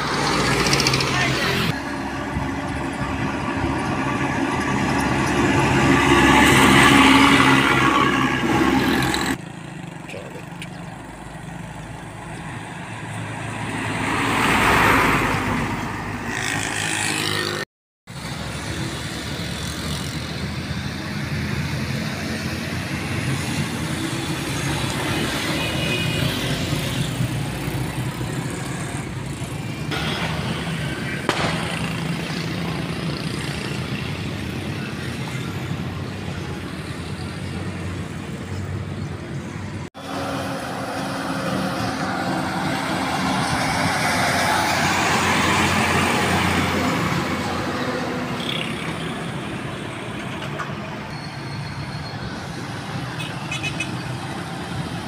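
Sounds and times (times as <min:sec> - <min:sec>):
traffic noise: 0:00.0 - 0:55.0
trucks passing by: 0:00.0 - 0:55.0.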